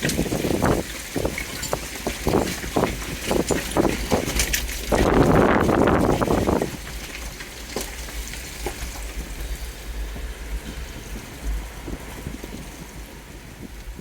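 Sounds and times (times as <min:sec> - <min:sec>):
water splashing against a vehicle: 0:00.0 - 0:14.0
low rumble: 0:02.7 - 0:14.0.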